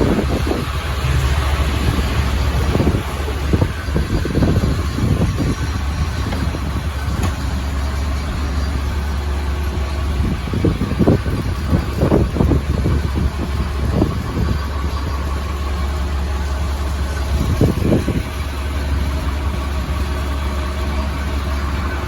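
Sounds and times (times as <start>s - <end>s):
engine rumbling: 0.0s - 22.0s
wind buffeting microphone: 0.0s - 22.0s.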